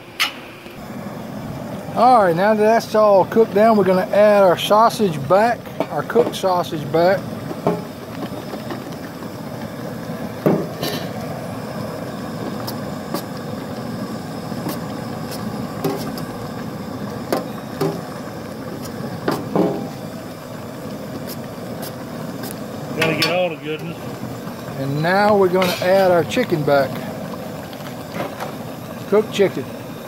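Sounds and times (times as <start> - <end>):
propane burner rushing: 0.0 - 30.0.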